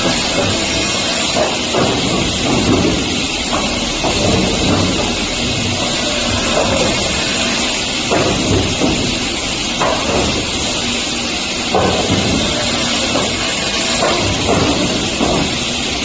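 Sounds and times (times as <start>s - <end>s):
wood cut-off saw running: 0.0s - 2.0s, 3.0s - 16.0s.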